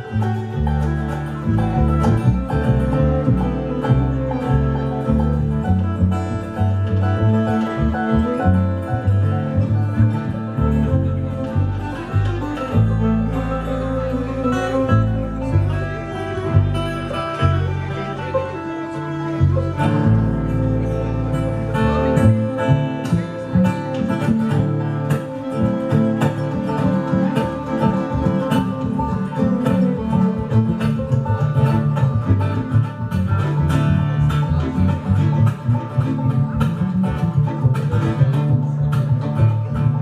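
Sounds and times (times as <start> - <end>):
bass line: 0.0 - 40.0
fiddle: 0.0 - 40.0
guitar: 0.0 - 40.0
picked banjo: 0.0 - 40.0.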